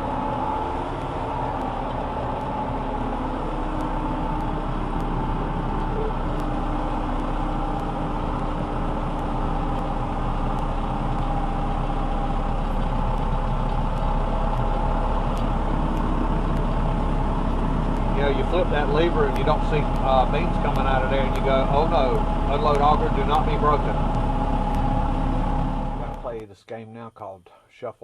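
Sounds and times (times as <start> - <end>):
combine harvester running: 0.0 - 26.4.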